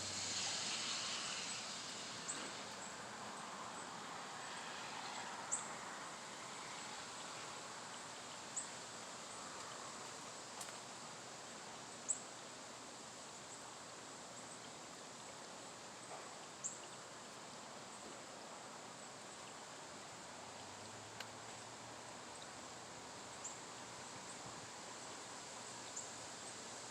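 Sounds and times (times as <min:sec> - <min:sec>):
high insect buzz: 0:00.0 - 0:26.9
wind rustling leaves: 0:00.0 - 0:26.9.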